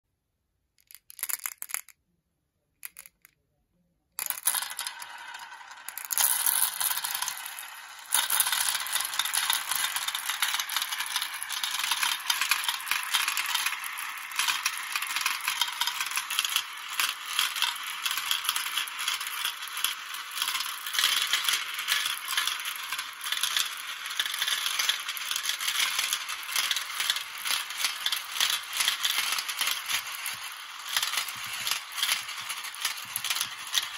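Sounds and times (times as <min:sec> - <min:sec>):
glass marbles rattling in marble run: 0:00.8 - 0:01.9, 0:02.8 - 0:03.3, 0:04.2 - 0:33.9.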